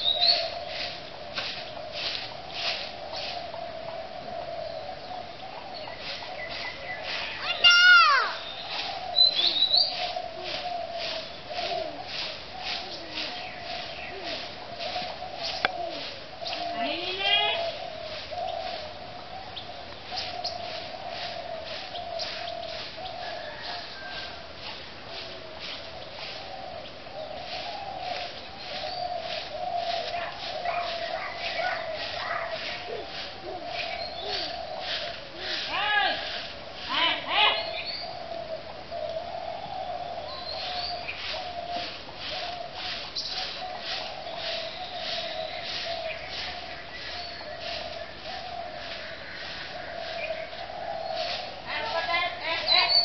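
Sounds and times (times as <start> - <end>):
bird calling: 0.0 - 53.0
broom sweeping leaves: 0.0 - 53.0.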